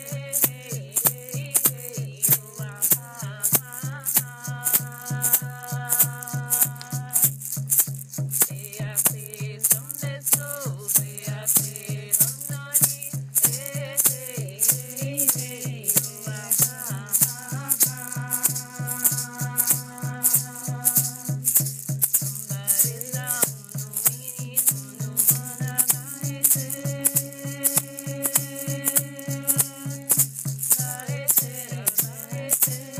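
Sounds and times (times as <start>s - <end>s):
person chanting: 0.0s - 7.2s, 8.7s - 21.5s, 22.3s - 30.2s, 30.8s - 32.9s
shaker rattle beat: 0.0s - 32.9s.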